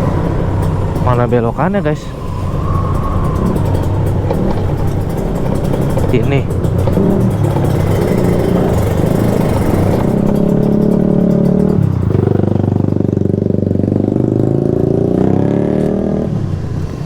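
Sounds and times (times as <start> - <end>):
two-stroke motorcycle engine revving: 0.0 - 17.0.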